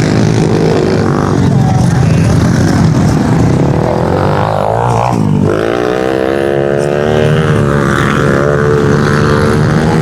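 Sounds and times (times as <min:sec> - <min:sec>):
pit bike engines revving: 0:00.0 - 0:10.0.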